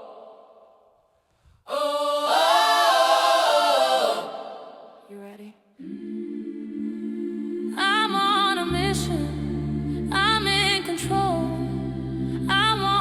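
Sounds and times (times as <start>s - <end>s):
wordless choir harmonies: 0.0s - 1.0s, 1.6s - 13.0s.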